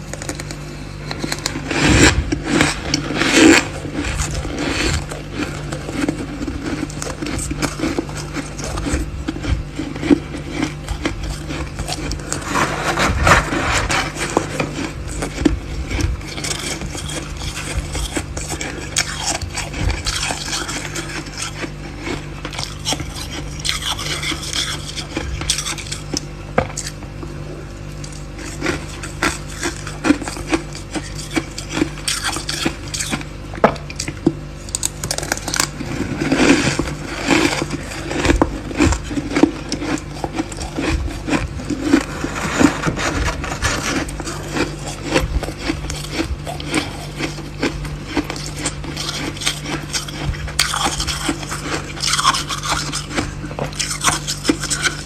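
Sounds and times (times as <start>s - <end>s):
frost being scraped and crunched: 0.0s - 27.0s, 28.0s - 33.3s, 34.6s - 55.0s
steady low hum: 0.0s - 55.0s.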